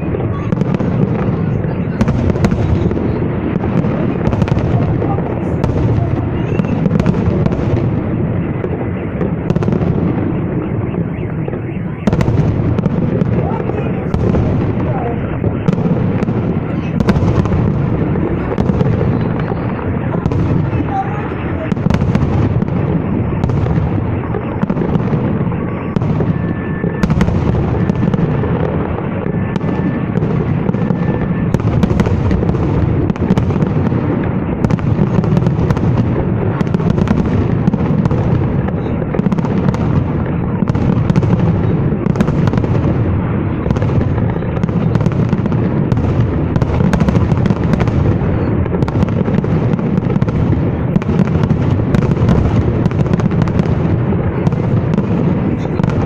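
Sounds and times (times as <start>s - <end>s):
fireworks booming: 0.0s - 56.0s.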